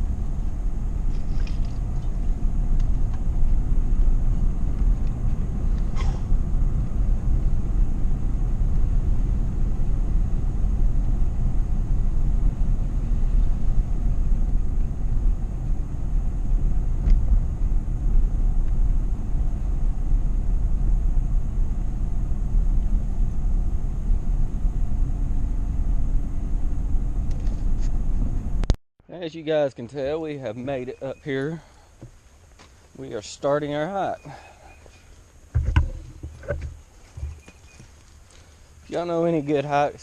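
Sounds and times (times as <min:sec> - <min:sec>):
car cabin road rumble: 0:00.0 - 0:28.8, 0:29.5 - 0:40.0.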